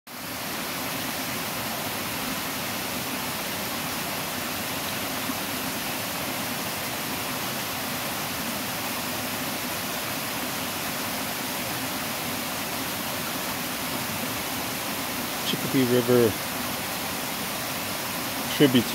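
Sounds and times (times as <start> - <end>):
waterfall rushing over rocks: 0.1 - 18.9.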